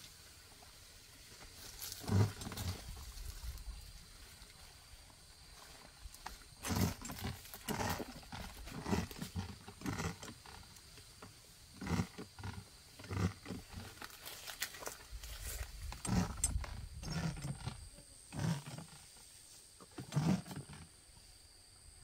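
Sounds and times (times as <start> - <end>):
rustling through grass and bushes: 0.0 - 17.9.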